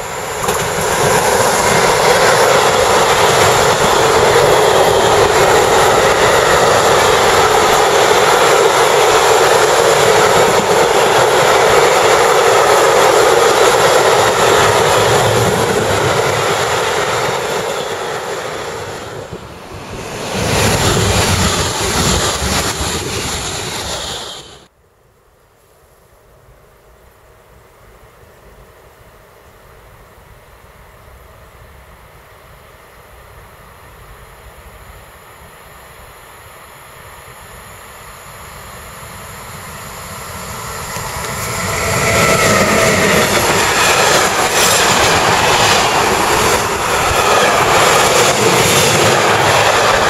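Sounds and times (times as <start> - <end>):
freight train rolling past: 0.0 - 24.7, 26.7 - 50.0
passenger train passing: 0.0 - 24.8, 26.1 - 50.0.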